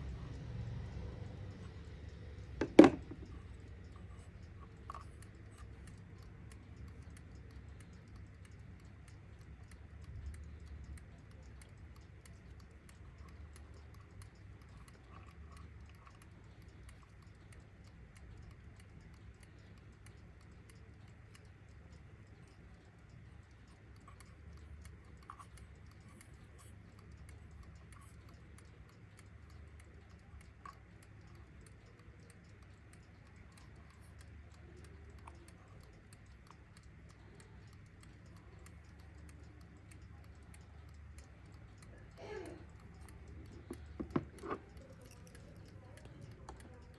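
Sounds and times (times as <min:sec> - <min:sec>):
alarm clock ticking: 0:00.0 - 0:46.9
low background hum: 0:00.0 - 0:46.9.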